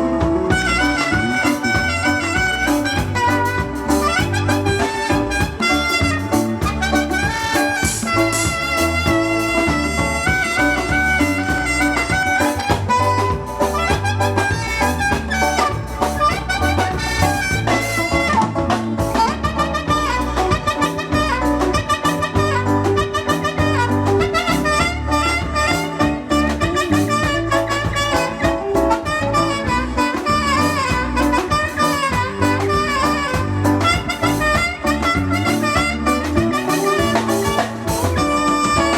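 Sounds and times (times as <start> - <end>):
live band playing: 0.0 - 38.9
steady drum beat: 0.0 - 38.9.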